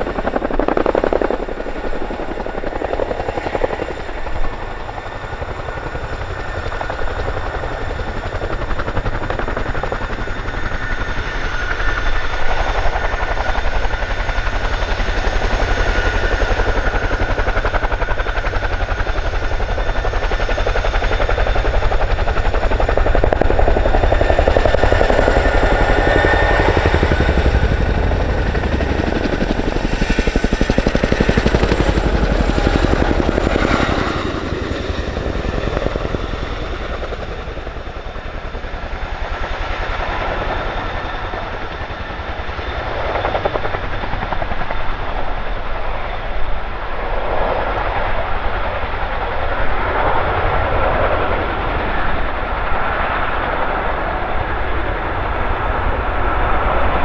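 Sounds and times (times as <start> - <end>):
helicopter rotors chopping: 0.0 - 46.1
turbine whine: 0.0 - 57.0.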